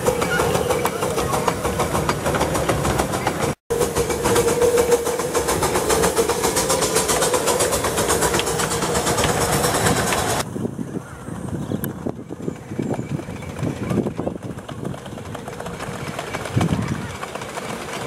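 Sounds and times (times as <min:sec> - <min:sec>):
miniature train wheels clicking on rails: 0:00.0 - 0:10.4, 0:11.8 - 0:18.0
steady train running noise: 0:00.0 - 0:18.0.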